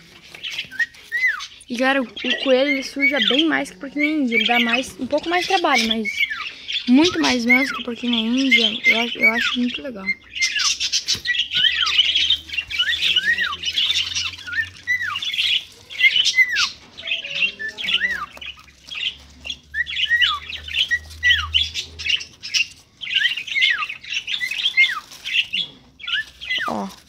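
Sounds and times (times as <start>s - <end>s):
cage birds chattering and squawking: 0.0s - 27.0s.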